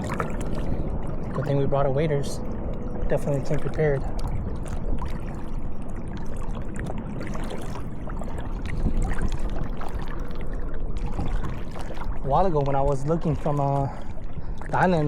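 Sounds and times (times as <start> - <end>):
water sloshing around wading legs: 0.0 - 15.0.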